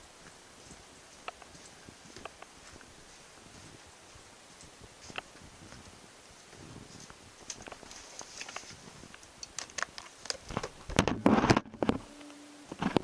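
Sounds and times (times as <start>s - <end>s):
handling clicks and rustles: 0.2s - 13.0s.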